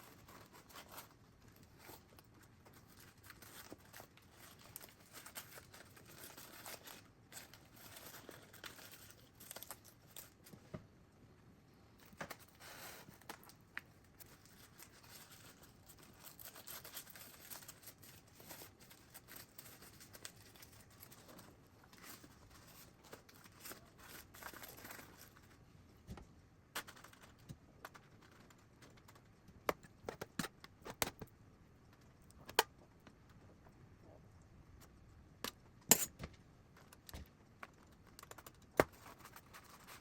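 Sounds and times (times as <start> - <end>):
rustling and crinkling: 0.0 - 11.1, 11.8 - 40.0.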